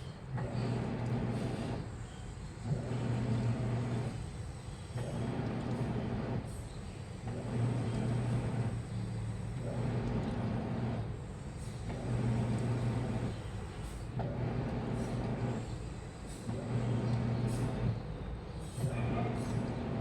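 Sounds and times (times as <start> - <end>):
washing machine churning: 0.0 - 20.0
washing machine motor hum: 0.0 - 20.0.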